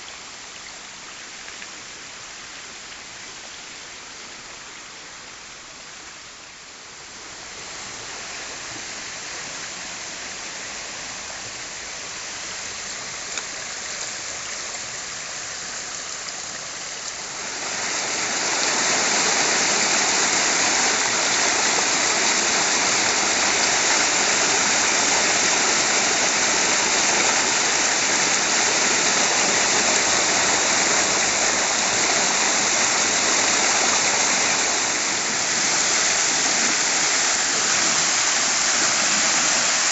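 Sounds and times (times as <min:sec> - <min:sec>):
heavy rain downpour: 0:00.0 - 0:39.9
rushing stream: 0:00.0 - 0:39.9.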